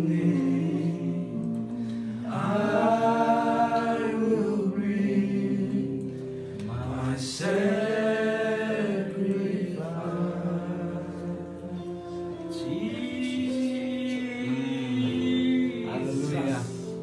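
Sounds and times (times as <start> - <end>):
gospel worship singing: 0.0 - 17.0.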